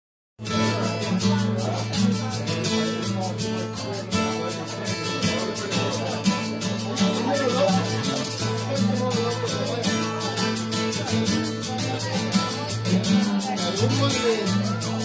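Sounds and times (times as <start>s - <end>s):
acoustic guitar strumming: 0.4s - 15.0s.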